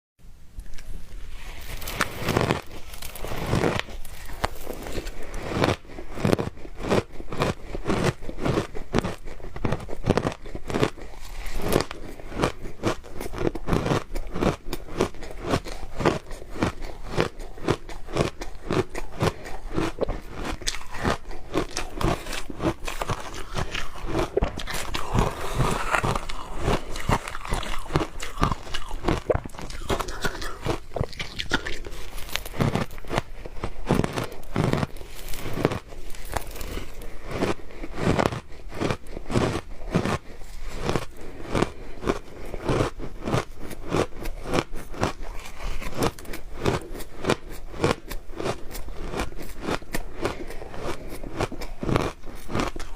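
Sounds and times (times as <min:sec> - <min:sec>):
chewing crunchy shaved ice: 0:00.6 - 0:52.9.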